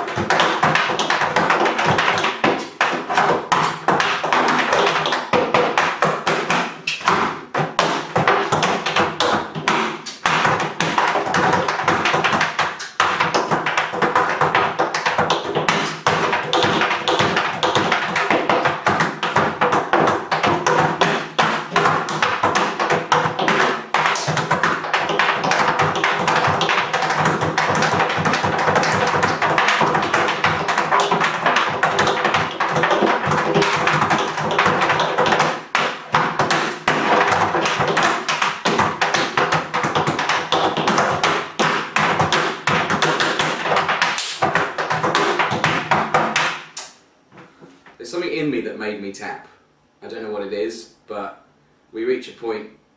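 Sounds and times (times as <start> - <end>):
tap shoes on wooden board: 0.0 - 47.5.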